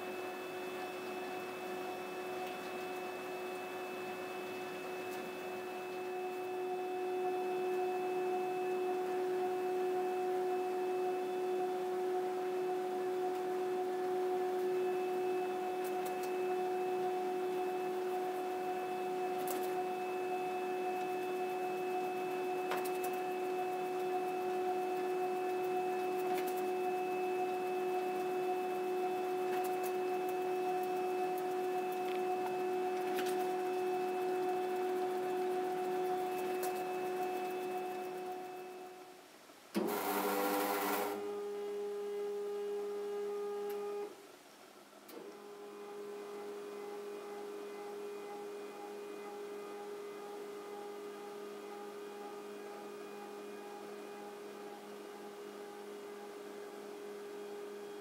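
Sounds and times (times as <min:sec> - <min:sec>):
laser printer whine: 0:00.0 - 0:39.2, 0:39.8 - 0:44.2, 0:45.1 - 0:58.0.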